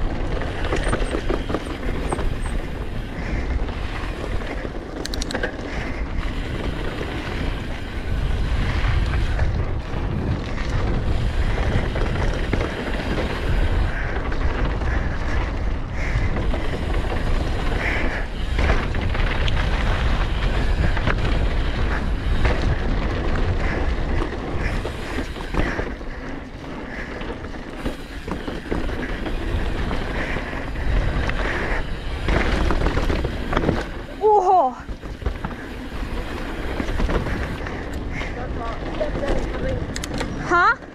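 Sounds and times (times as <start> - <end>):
bike knocks and rattles: 0.0 - 40.9
tyres rumbling over dirt: 0.0 - 40.9
wind buffeting microphone: 0.0 - 40.9.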